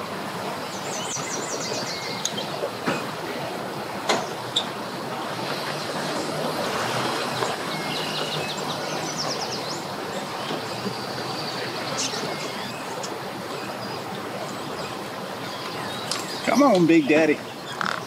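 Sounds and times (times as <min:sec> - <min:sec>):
outboard motor rumbling: 0:00.0 - 0:18.0
water churning: 0:00.0 - 0:18.0.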